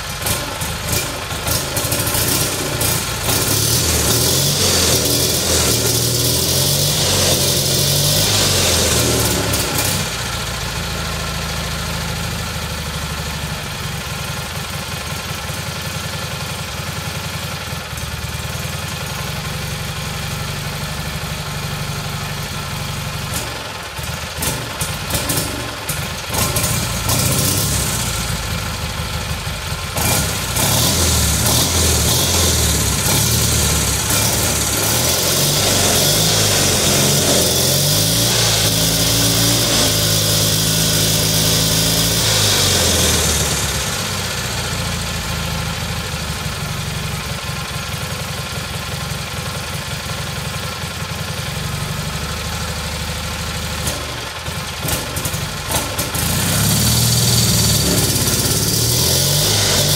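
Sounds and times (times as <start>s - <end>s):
twin-cylinder engine running: 0.0s - 59.9s.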